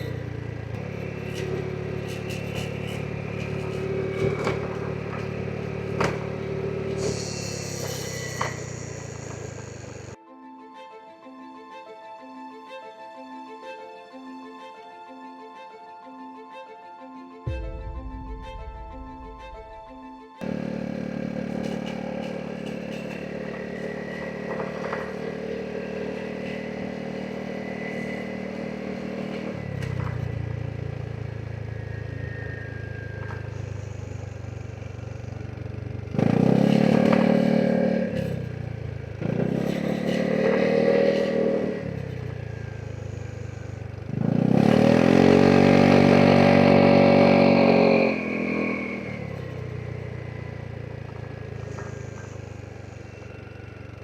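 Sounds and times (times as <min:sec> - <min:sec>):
scooter engine accelerating: 0:00.0 - 0:10.2, 0:17.5 - 0:54.0.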